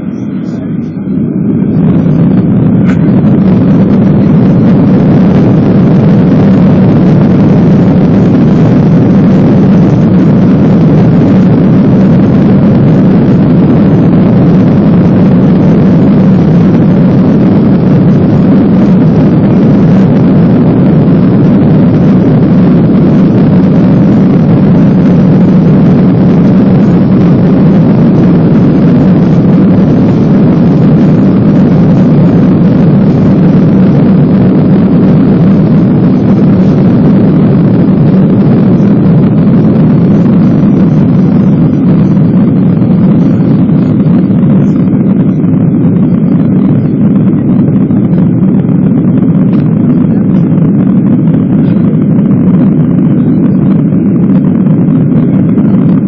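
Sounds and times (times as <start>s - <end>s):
jet engines at takeoff in cabin: 0.0s - 56.0s.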